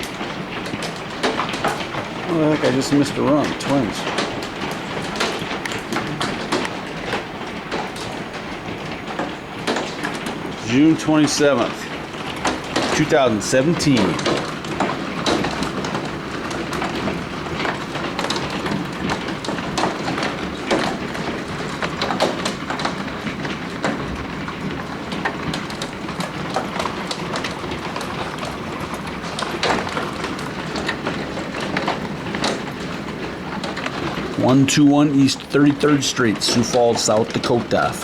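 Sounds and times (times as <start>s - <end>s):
hail and rain clattering: 0.0s - 38.0s.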